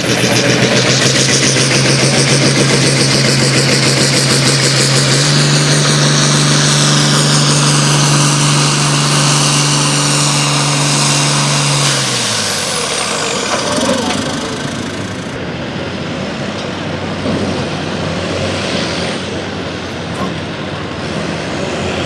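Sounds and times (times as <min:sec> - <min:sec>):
engine at full throttle: 0:00.0 - 0:22.0.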